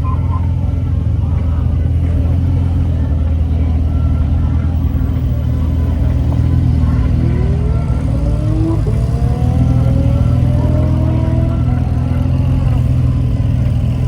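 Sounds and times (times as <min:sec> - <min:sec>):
car engine accelerating: 0:00.0 - 0:14.0
car engines rumbling: 0:00.0 - 0:14.0.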